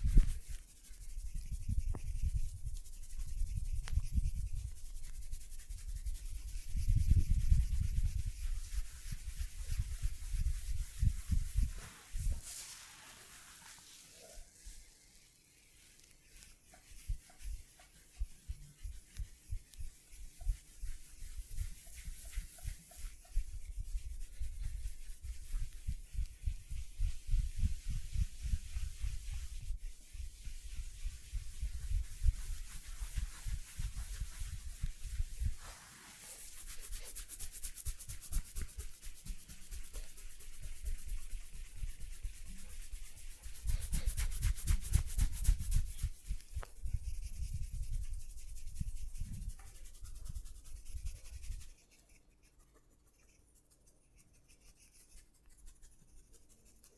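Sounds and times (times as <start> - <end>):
hands rubbing skin: 0.0 - 56.9.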